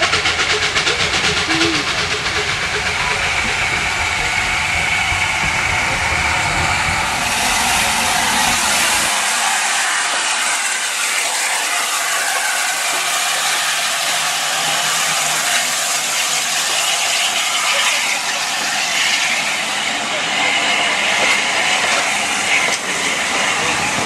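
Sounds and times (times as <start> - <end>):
steam hissing: 0.0 - 24.0
steam locomotive rolling past: 0.0 - 24.0.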